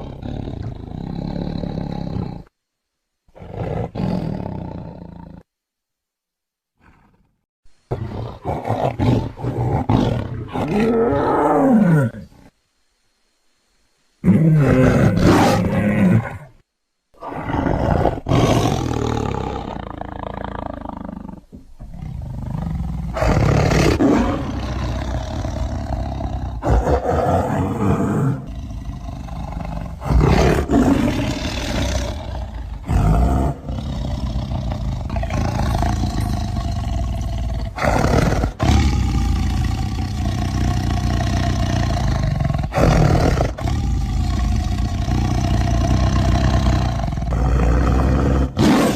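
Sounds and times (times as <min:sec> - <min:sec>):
tiger roaring: 0:00.0 - 0:02.5, 0:03.3 - 0:05.4, 0:06.8 - 0:12.5, 0:14.2 - 0:16.6, 0:17.2 - 0:48.9.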